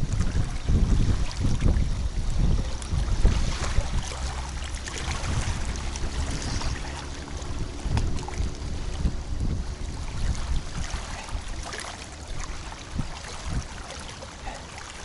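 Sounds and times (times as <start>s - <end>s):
water lapping faintly: 0.0s - 15.0s
wind buffeting microphone: 0.0s - 15.0s.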